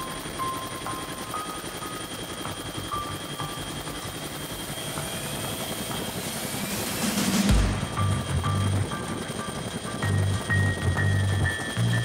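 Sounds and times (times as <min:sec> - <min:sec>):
helicopter engine whine: 0:00.0 - 0:12.0
helicopter rotor flutter: 0:00.0 - 0:12.0.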